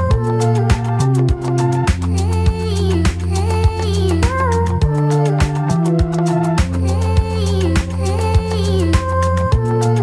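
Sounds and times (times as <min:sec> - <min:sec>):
sustained bass notes: 0:00.0 - 0:10.0
steady beat: 0:00.1 - 0:09.7.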